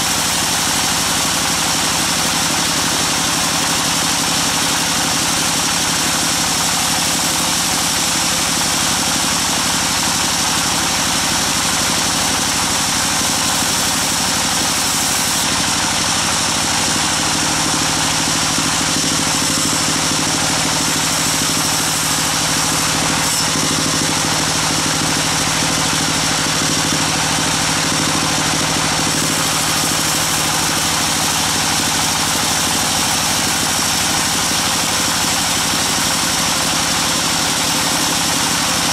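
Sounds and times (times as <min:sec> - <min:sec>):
band saw cutting timber: 0:00.0 - 0:38.9.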